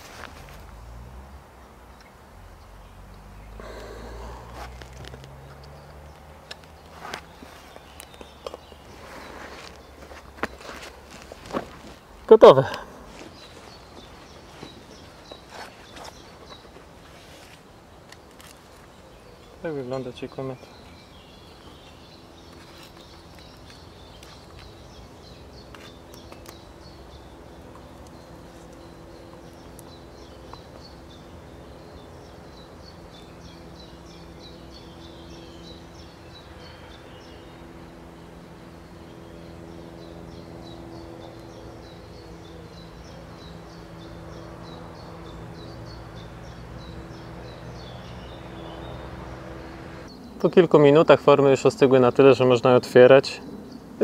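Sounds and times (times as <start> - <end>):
steady low hum: 0.0 - 50.5.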